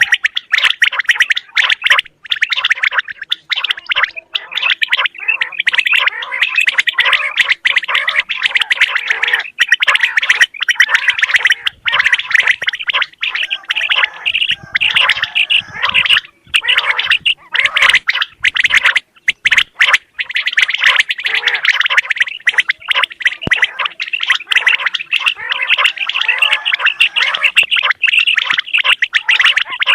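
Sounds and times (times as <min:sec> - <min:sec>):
quail calling: 0:00.0 - 0:29.9.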